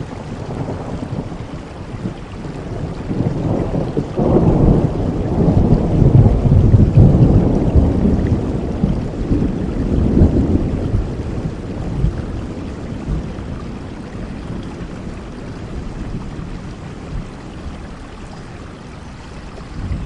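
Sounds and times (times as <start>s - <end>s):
low rumble of thunder: 0.0s - 20.0s
steady rainfall: 0.0s - 20.0s.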